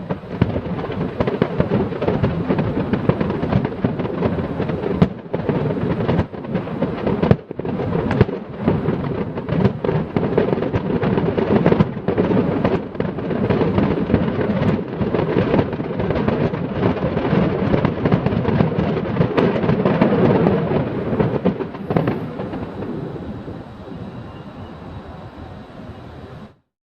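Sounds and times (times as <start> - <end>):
fireworks bangs and crackles: 0.0 - 25.7.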